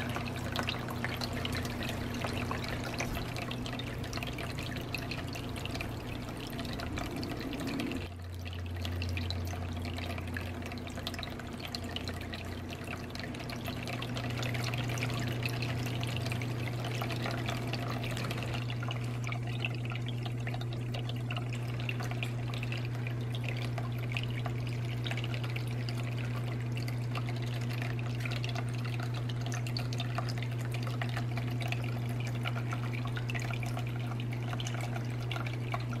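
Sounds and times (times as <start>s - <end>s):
steady low hum: 0.0s - 36.0s
water trickling and dripping: 0.0s - 36.0s.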